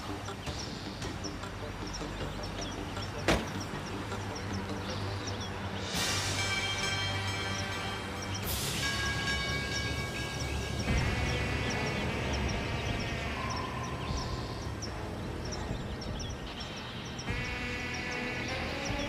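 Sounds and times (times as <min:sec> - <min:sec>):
sustained chords score: 0:00.0 - 0:19.0.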